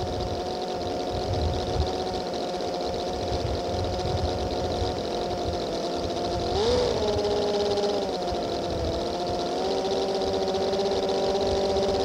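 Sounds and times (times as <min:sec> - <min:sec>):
model aero engine running: 0:00.0 - 0:12.0.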